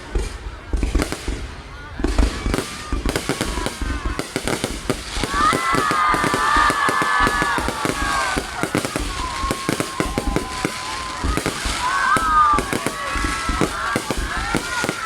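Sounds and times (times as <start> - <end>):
fireworks crackling and banging: 0.0 - 15.0
fireworks whistling: 0.0 - 15.0.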